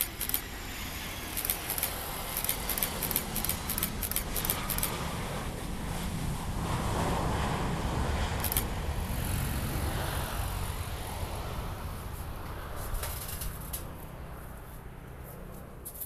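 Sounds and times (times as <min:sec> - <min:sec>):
jet engines rumbling: 0:00.0 - 0:15.8.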